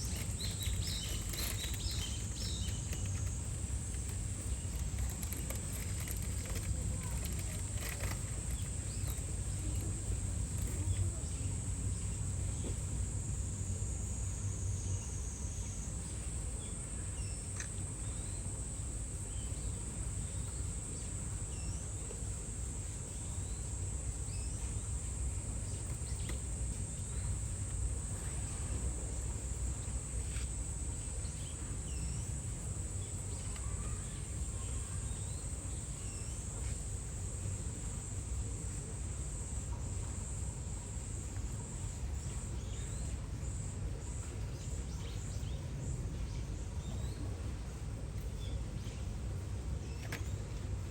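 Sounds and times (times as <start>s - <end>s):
low outdoor rumble: 0.0s - 50.9s.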